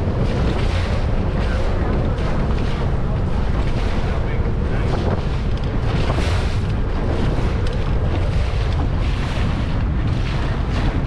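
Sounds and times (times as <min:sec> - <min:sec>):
water splashing under boat: 0:00.0 - 0:11.0
wind buffeting microphone: 0:00.0 - 0:11.0.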